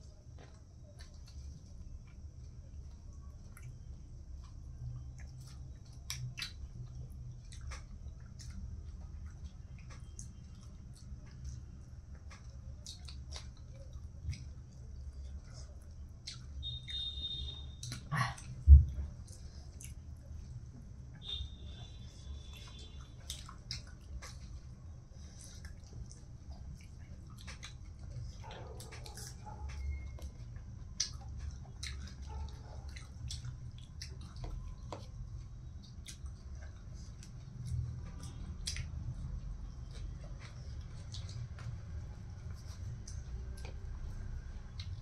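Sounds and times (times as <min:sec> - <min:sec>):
wet chewing and lip smacks: 0:00.1 - 0:45.0.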